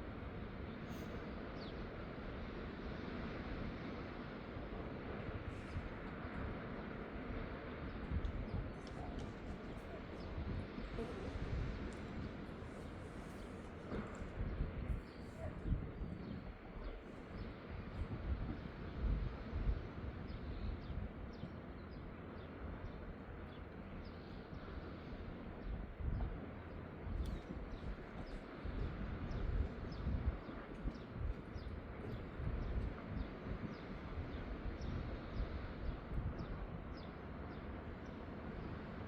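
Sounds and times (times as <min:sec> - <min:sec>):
wind rumbling on microphone: 0:00.0 - 0:39.0.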